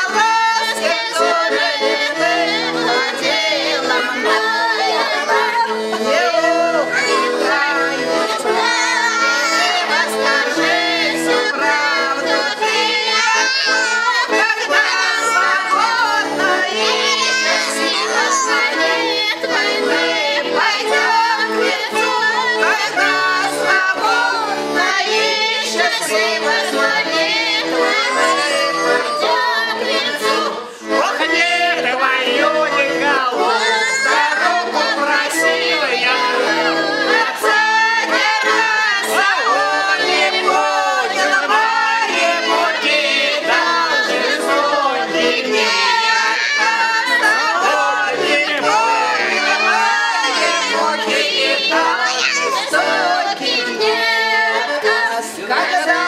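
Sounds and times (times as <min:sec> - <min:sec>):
button accordion playing: 0:00.0 - 0:56.0
group singing along: 0:00.0 - 0:56.0.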